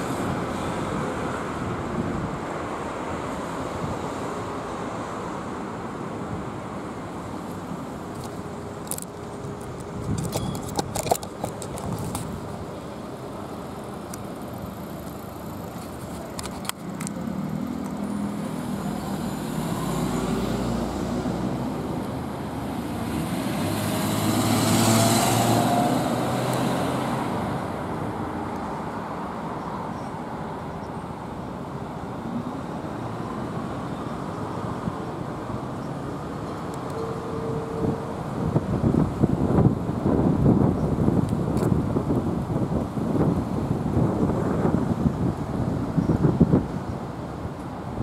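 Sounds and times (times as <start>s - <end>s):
cars passing: 0.0s - 48.0s.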